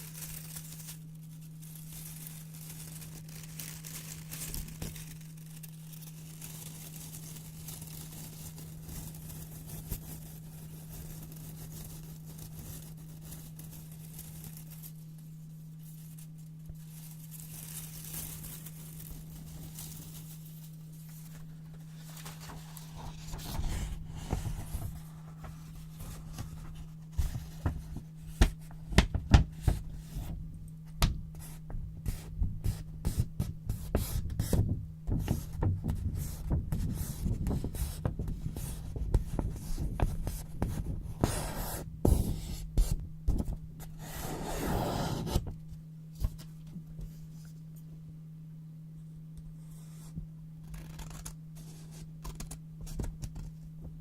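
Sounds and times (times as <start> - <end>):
paper rustling: 0.0 - 45.5
low steady hum: 0.0 - 54.0.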